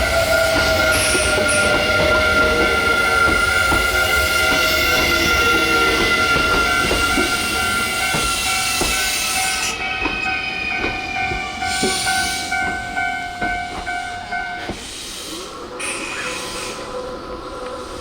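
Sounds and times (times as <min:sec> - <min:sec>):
wheels knocking on rail joints: 0:00.0 - 0:14.9
train rushing past: 0:00.0 - 0:18.0.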